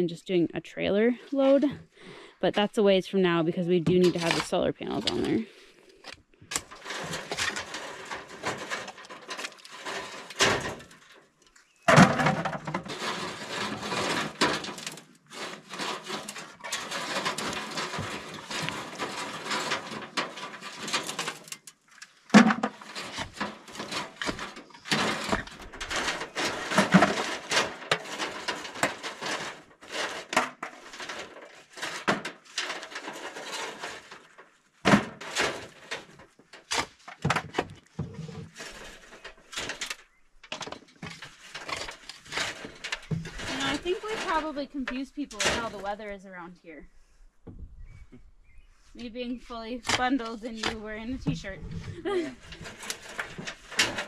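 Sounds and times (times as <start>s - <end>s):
soil scraping through grate: 2.6s - 46.5s, 49.0s - 54.0s.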